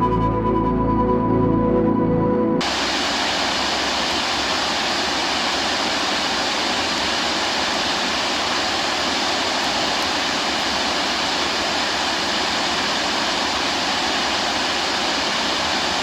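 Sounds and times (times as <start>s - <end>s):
waterfall rushing: 2.6s - 16.0s.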